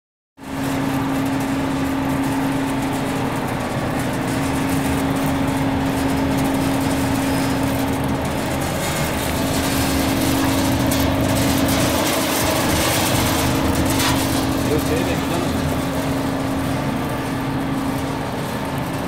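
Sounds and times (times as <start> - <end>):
motor and fan noise: 0.4 - 19.0
nut roasting machine humming: 0.4 - 19.0.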